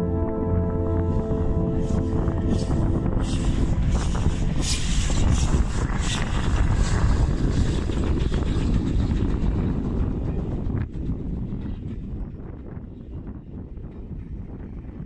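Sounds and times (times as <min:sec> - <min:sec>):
sharp locomotive beats: 0:00.0 - 0:14.8
steam locomotive rumbling: 0:00.0 - 0:14.8
background music: 0:00.0 - 0:15.0
wind buffeting microphone: 0:00.0 - 0:15.0.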